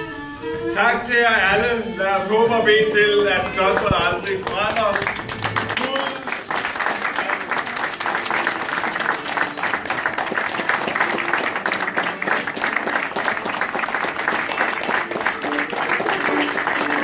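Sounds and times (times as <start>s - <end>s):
audience applauding: 3.1s - 17.0s.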